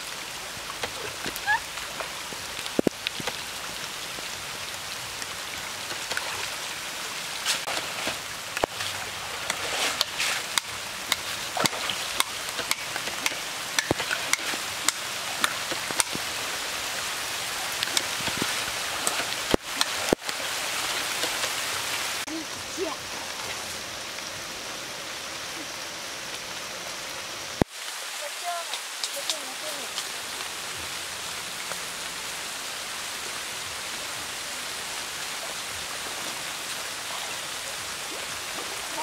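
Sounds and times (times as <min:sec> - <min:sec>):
rain falling on a river: 0:00.0 - 0:39.0.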